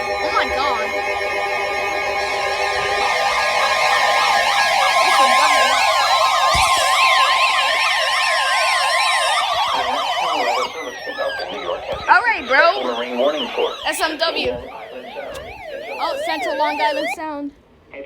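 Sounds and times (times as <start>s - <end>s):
slow falling tones: 0.0s - 17.3s
steady electronic tone: 0.0s - 17.3s
warbling siren-like tones: 0.0s - 17.4s.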